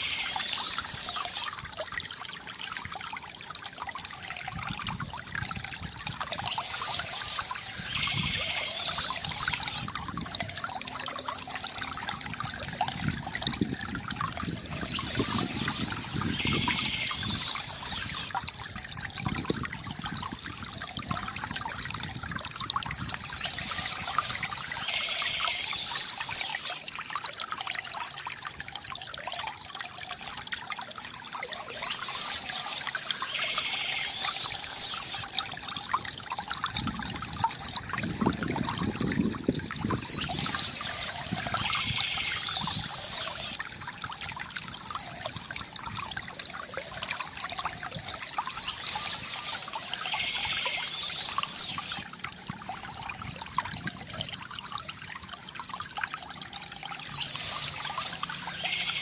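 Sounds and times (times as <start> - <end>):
stream of water trickling: 0.0 - 59.0.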